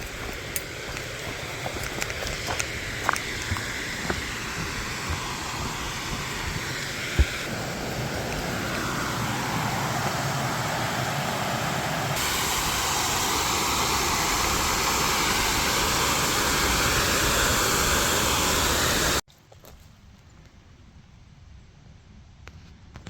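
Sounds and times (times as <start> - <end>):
steady rushing noise: 0.0 - 19.2.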